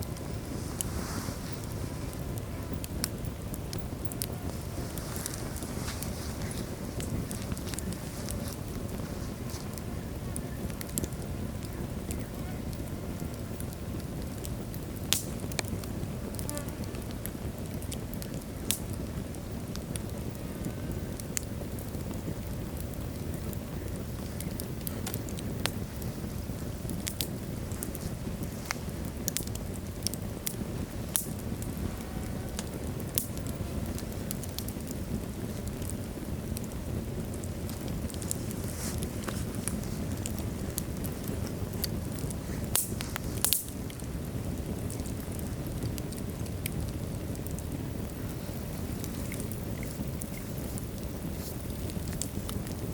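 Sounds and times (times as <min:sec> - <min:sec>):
fire burning in fireplace: 0:00.0 - 0:52.9
wood crackles and pops: 0:00.0 - 0:52.9.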